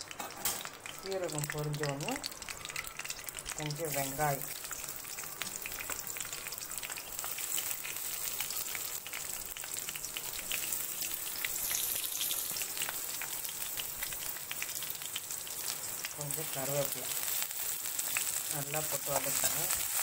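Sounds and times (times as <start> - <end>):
onion sizzling in hot oil: 0.0 - 20.0.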